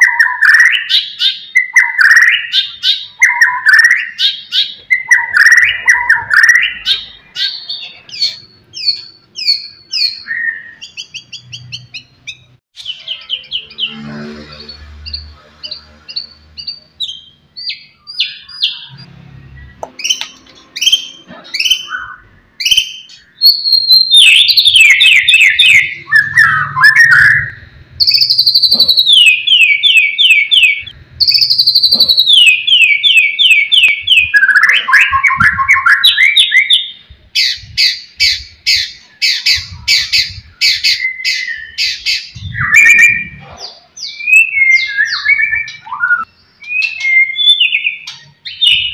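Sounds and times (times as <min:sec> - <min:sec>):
bird singing whistles and trills: 0:00.0 - 0:14.0, 0:15.0 - 0:48.9.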